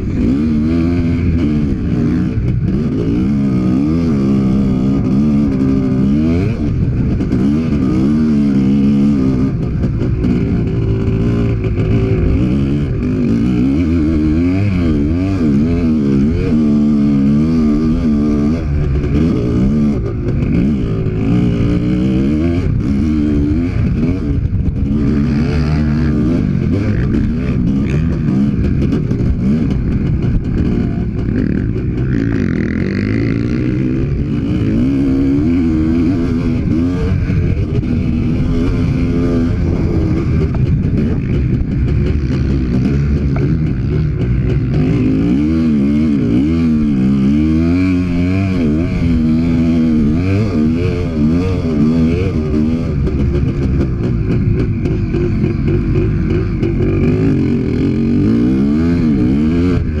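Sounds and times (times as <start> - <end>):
two-stroke motorcycle engine revving: 0.0 - 60.0.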